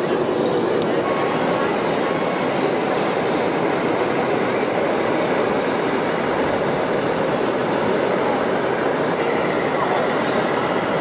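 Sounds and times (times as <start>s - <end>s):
crowded hall din: 0.0s - 11.0s.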